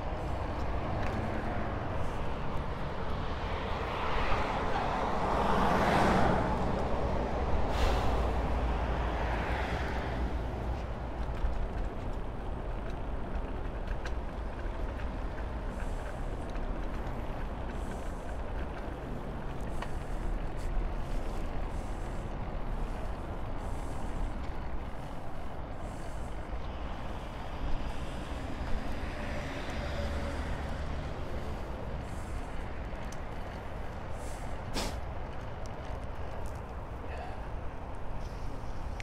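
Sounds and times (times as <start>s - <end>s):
road noise: 0.0s - 39.0s
traffic passing: 0.0s - 39.0s.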